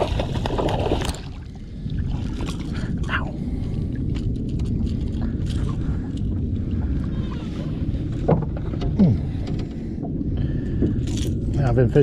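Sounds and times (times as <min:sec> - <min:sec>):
water moving around boat hull: 0:00.0 - 0:11.6
wind on microphone: 0:00.0 - 0:12.0.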